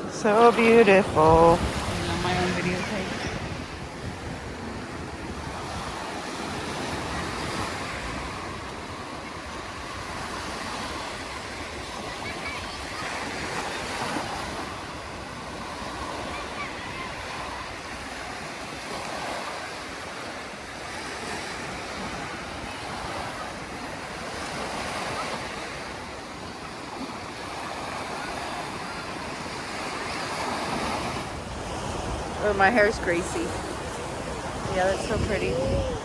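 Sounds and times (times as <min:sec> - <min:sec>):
waves breaking on beach: 0:00.0 - 0:36.0.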